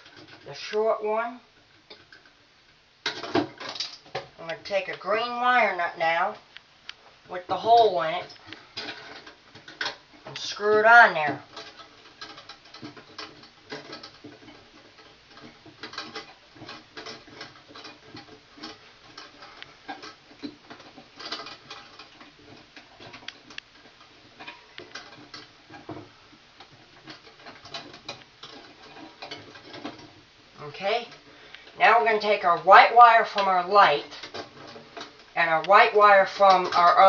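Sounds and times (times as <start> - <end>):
wire nut clicking and scraping: 6.4 - 37.0.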